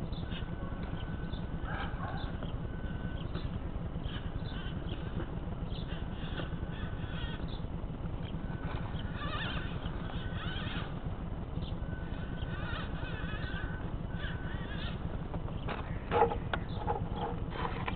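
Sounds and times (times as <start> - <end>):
low rumble: 0.0 - 17.9.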